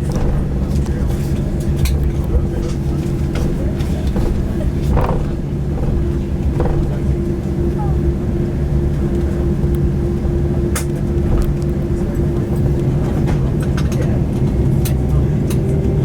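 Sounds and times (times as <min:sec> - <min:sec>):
light clicks and rattles: 0:00.0 - 0:08.0, 0:08.9 - 0:15.8
aircraft cabin engine rumble: 0:00.0 - 0:16.0
constant hum: 0:00.0 - 0:16.0.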